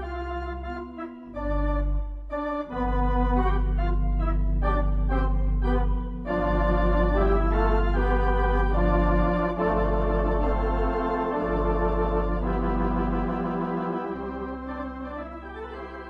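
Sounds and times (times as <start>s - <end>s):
organ chords: 0.0s - 16.0s.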